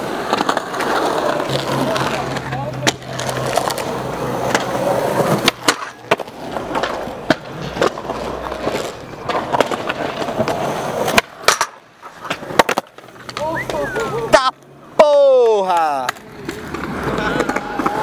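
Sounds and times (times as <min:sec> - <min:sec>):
skateboard clacking on ground: 0:00.0 - 0:18.0
skateboard rolling on concrete: 0:00.0 - 0:18.0.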